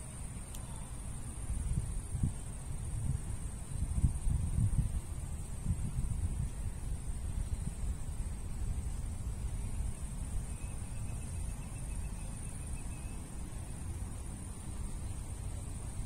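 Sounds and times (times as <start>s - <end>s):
wind buffeting microphone: 1.0s - 16.0s.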